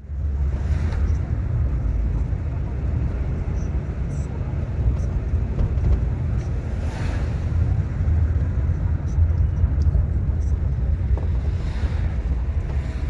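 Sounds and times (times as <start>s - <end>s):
car engine and road noise: 0.0s - 13.0s
rushing noise: 0.0s - 13.0s.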